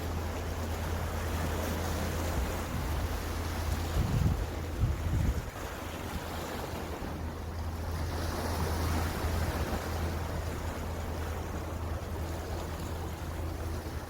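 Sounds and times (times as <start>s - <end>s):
steady low hum: 0.0s - 14.0s
wind buffeting microphone: 1.2s - 14.0s.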